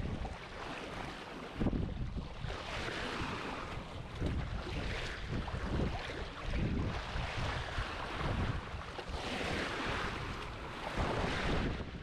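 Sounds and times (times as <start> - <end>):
surf: 0.0 - 12.0
rushing wind: 1.4 - 12.0.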